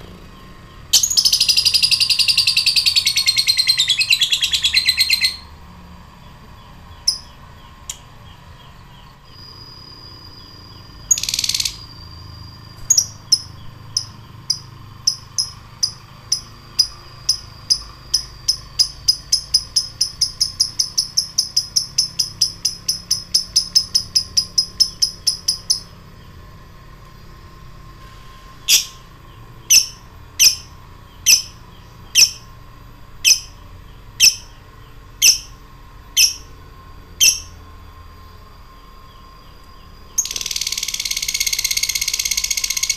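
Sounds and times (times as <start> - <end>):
lovebird louder calls: 0.0 - 5.5, 6.9 - 26.3, 28.6 - 32.6, 33.2 - 37.7, 40.1 - 42.9
lovebird ticking chirps: 0.3 - 5.4, 6.6 - 26.4, 28.7 - 32.5, 33.2 - 36.5, 37.2 - 37.6, 39.1 - 42.9.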